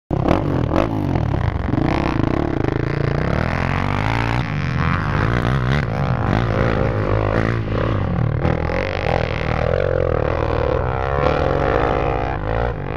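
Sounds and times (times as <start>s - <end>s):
dirt bike engines revving: 0.1s - 12.9s.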